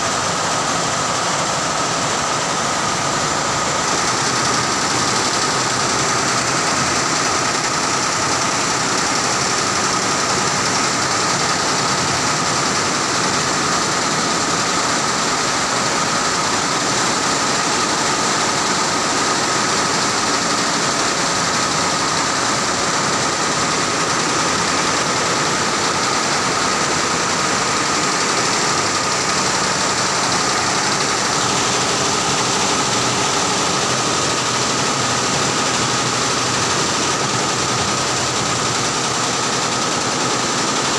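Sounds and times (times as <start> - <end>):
embroidery machine clattering: 0.1 - 40.9.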